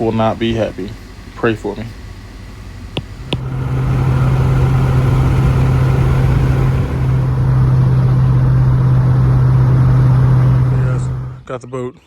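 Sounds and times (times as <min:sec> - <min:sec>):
low engine drone: 0:00.0 - 0:11.4
road noise: 0:00.0 - 0:11.5.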